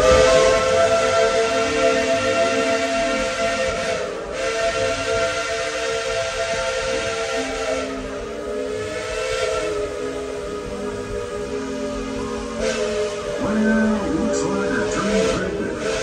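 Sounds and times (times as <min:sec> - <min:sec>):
shrill steam train sound: 0:00.0 - 0:16.0.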